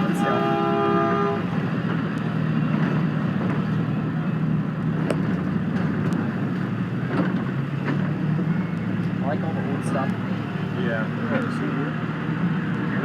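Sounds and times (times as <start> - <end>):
car engine and tyres humming: 0.0 - 13.0.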